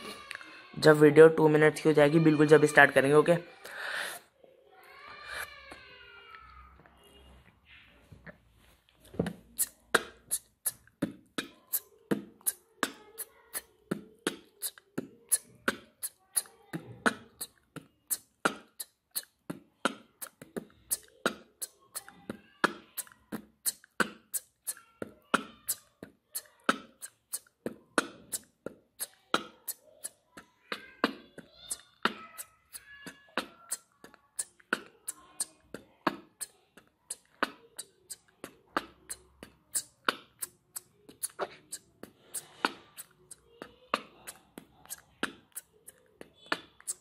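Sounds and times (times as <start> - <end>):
beatboxing mouth percussion: 9.2 - 47.0.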